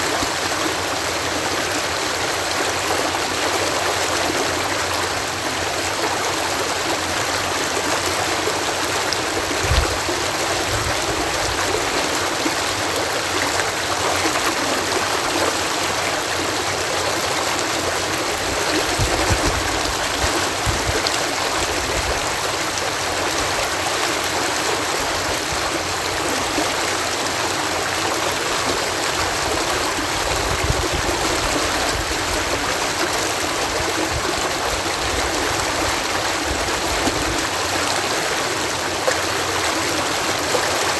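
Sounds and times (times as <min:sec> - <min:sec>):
water cascading over lock: 0:00.0 - 0:40.9.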